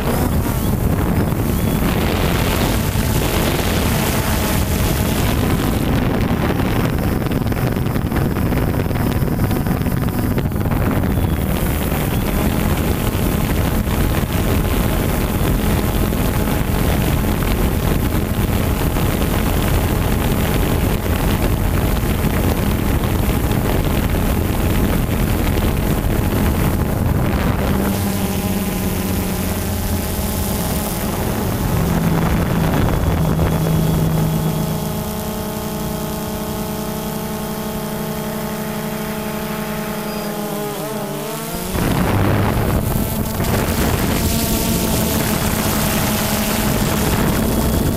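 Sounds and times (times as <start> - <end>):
drone propellers buzzing: 0.0 - 47.9
wind on microphone: 0.0 - 47.9.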